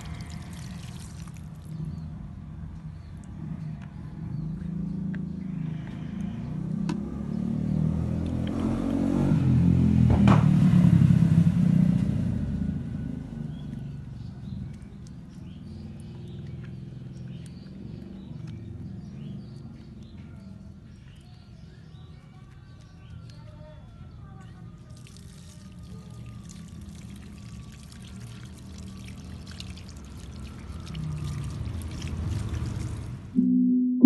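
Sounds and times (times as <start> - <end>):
vehicle engine rumble passing: 0.0 - 33.4.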